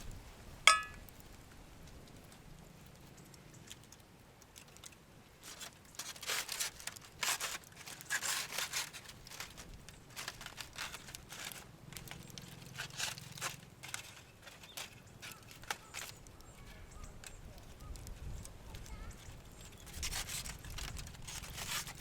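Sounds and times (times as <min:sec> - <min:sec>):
aluminium foil crinkling: 0:01.1 - 0:22.0.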